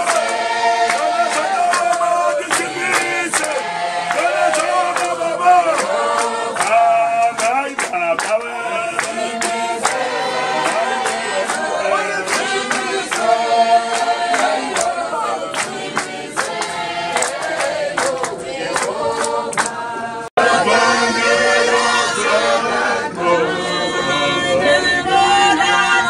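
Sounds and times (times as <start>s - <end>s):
rhythmic hand-claps: 0.0s - 23.3s
congregation singing unaccompanied: 0.0s - 26.0s.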